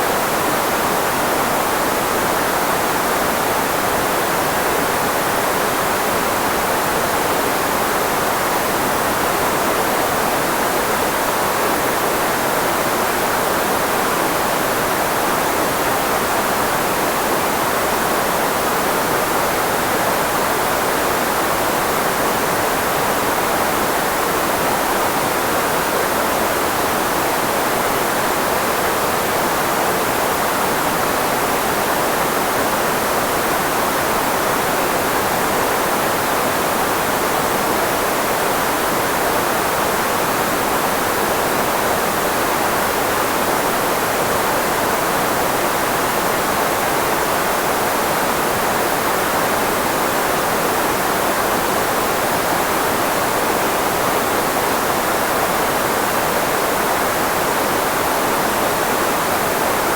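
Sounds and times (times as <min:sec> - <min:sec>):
filtered white noise hiss: 0:00.0 - 0:59.9.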